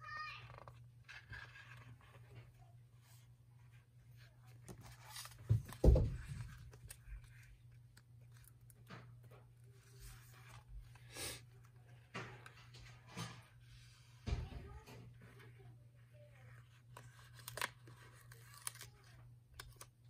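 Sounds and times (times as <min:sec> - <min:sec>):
paper pages rustling: 0:00.4 - 0:14.0, 0:14.7 - 0:20.0.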